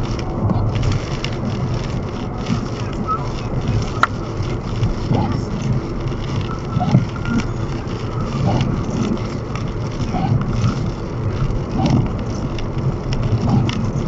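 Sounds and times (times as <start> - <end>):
raindrops ticking on windshield: 0.0 - 14.0
road and tyre noise in car: 0.0 - 14.0.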